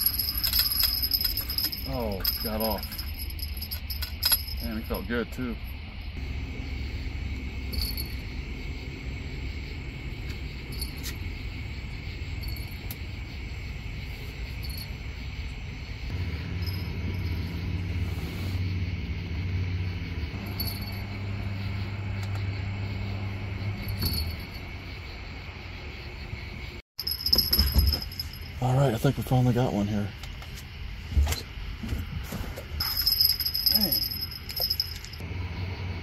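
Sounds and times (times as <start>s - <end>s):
crickets chirping: 0.0s - 36.0s
steady low hum: 0.0s - 36.0s.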